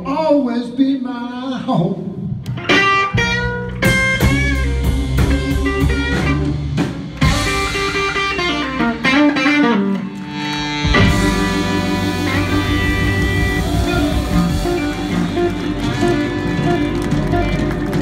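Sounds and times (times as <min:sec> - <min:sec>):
blues band playing: 0:02.2 - 0:18.0
electric guitar lead with bent notes: 0:02.5 - 0:18.0.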